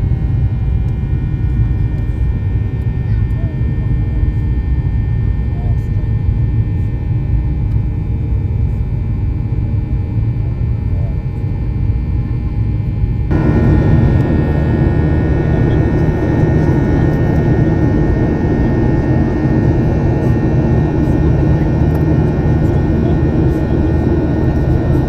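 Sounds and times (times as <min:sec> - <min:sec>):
jet airliner engines rumbling: 0:00.0 - 0:25.0.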